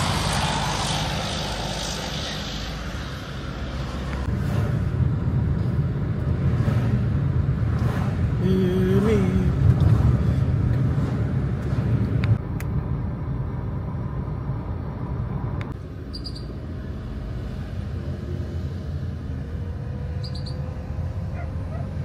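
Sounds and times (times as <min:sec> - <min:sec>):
road and engine rumble: 0:00.0 - 0:22.0
traffic passing: 0:00.0 - 0:22.0.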